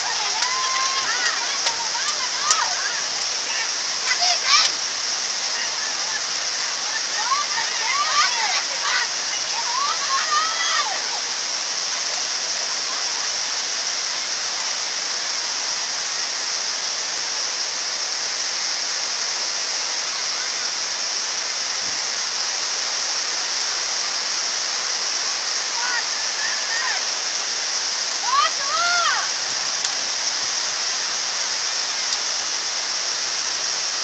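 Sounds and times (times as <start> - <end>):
floodwater rushing: 0.0 - 34.0
heavy rain: 0.0 - 34.0.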